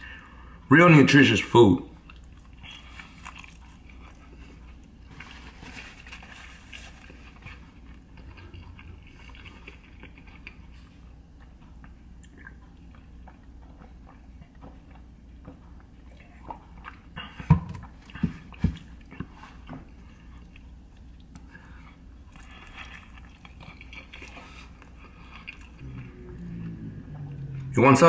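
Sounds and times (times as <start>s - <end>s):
man chewing food: 1.9s - 27.9s.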